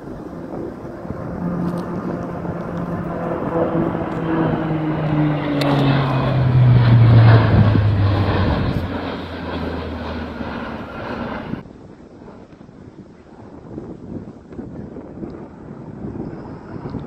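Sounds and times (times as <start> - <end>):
propeller airliner flying overhead: 0.0 - 17.0.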